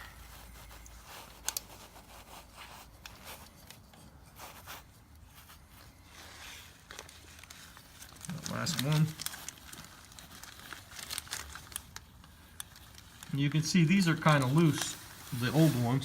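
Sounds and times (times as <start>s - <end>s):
faint scraping of wires: 0.0s - 16.0s.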